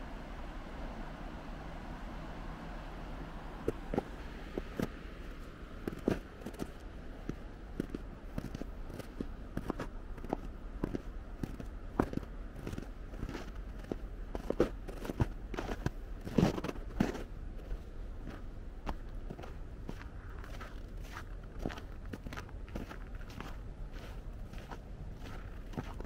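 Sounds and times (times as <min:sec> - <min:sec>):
low background rumble: 0:00.0 - 0:26.0
footsteps crunching on snow: 0:03.7 - 0:26.0.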